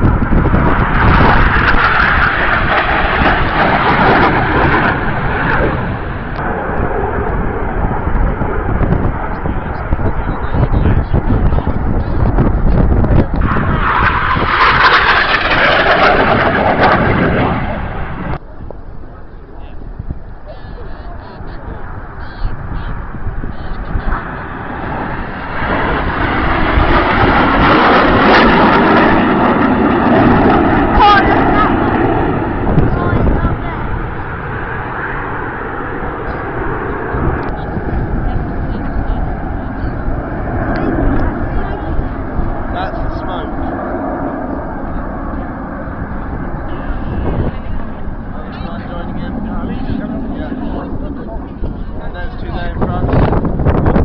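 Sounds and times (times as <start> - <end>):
jet engine roaring past: 0.0 - 54.0.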